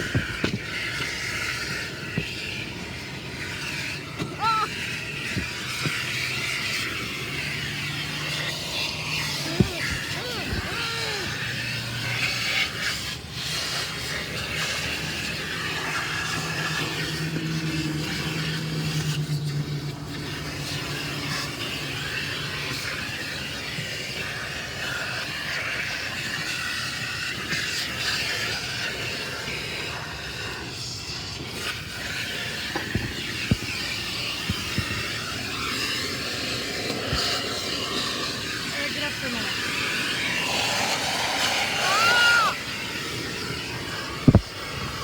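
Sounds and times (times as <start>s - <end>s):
car wash equipment hissing: 0.0s - 45.0s.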